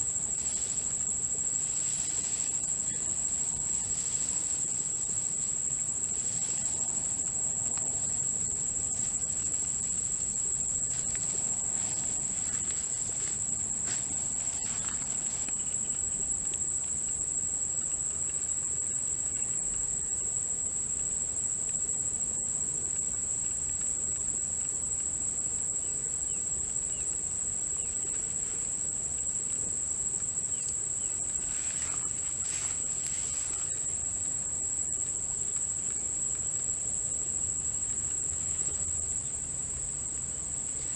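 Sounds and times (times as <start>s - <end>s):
faint rustles and clicks: 0.0s - 19.8s, 26.6s - 40.9s
insects trilling: 0.0s - 40.9s.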